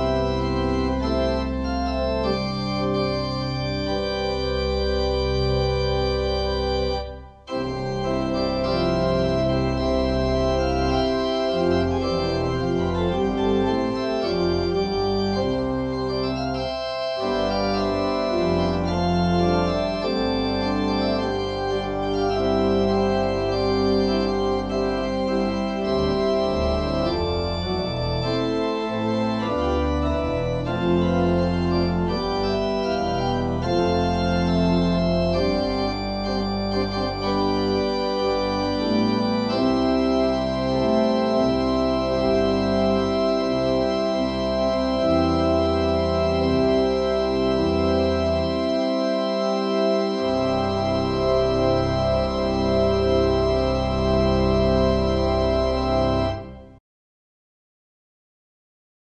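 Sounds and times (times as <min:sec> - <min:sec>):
church organ chords: 0:00.0 - 0:56.8.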